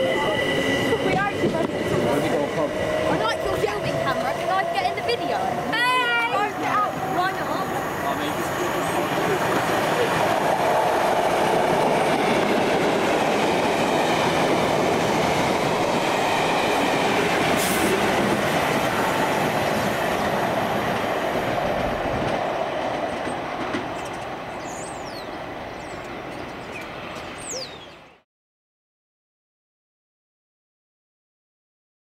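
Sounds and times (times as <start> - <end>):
train wheels rumbling on rails: 0.0 - 27.4.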